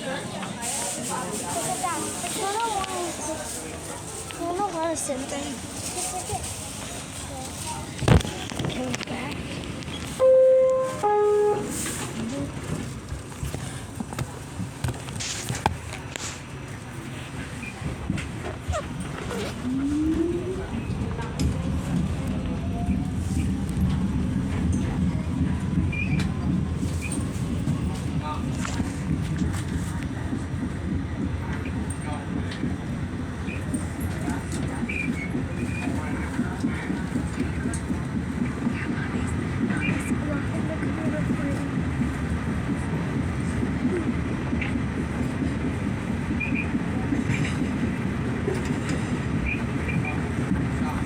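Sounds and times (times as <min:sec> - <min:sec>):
subway train rumble: 0:00.0 - 0:51.0.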